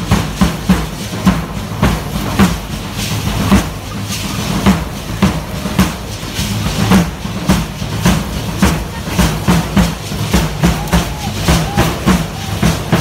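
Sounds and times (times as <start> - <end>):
dancers' rattles clacking: 0.0 - 13.0
steady drum beat: 0.0 - 13.0.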